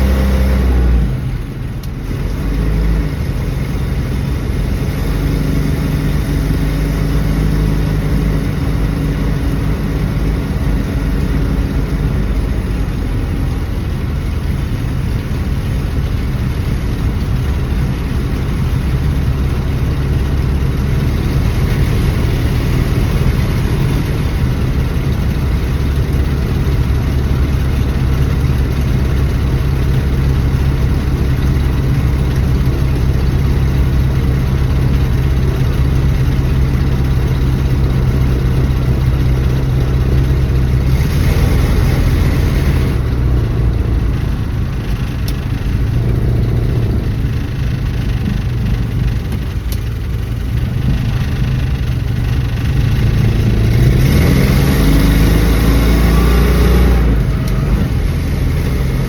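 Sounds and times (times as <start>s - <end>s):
car engine running and revving: 0.0s - 59.0s.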